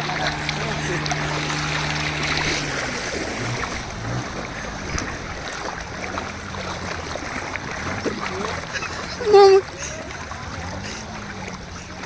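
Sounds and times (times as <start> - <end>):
motorbike engine humming: 0.0 - 12.0
water swishing: 0.0 - 12.0.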